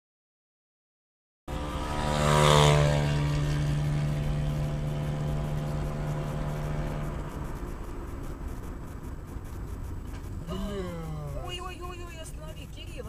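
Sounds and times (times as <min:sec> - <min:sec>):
vehicle engine humming: 0:01.5 - 0:13.0.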